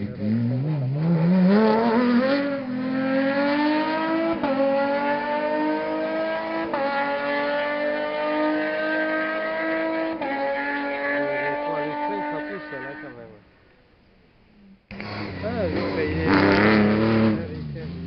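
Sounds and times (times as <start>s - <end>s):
car engine accelerating: 0.0s - 13.5s, 14.6s - 18.0s.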